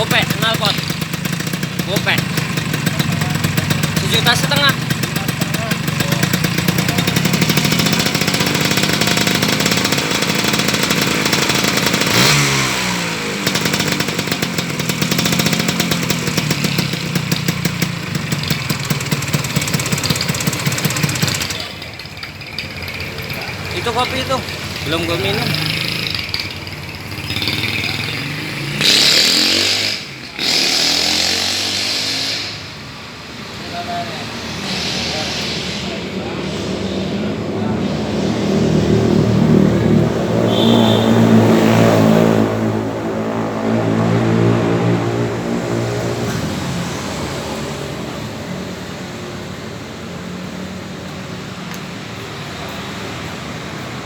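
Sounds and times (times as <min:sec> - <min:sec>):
scooter engine revving: 0:00.0 - 0:54.0
traffic hum: 0:00.0 - 0:54.0.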